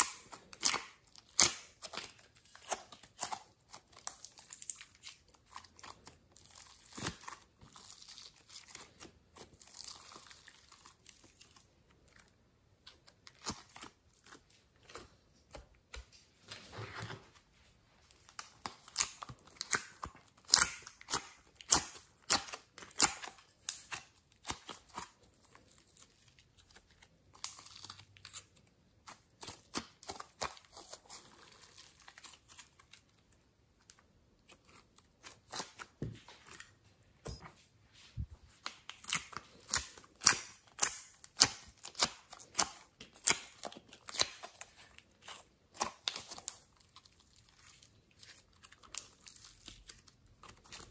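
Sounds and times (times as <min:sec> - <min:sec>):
clay squishing and crackling: 0:00.0 - 0:50.9.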